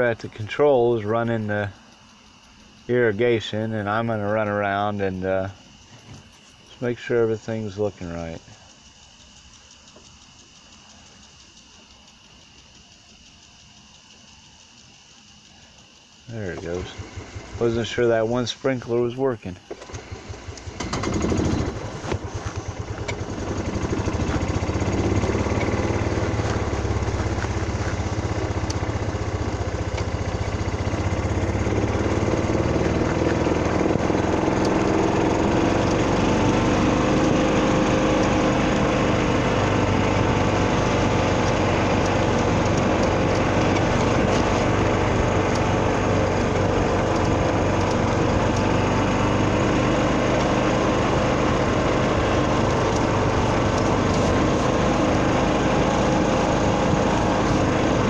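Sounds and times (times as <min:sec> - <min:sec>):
small vehicle engine running: 0:00.0 - 0:58.0.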